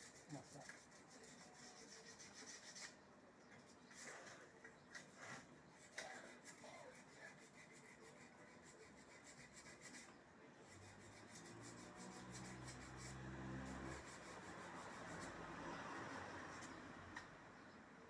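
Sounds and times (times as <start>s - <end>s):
faint rubbing and scratching: 0.0s - 15.4s.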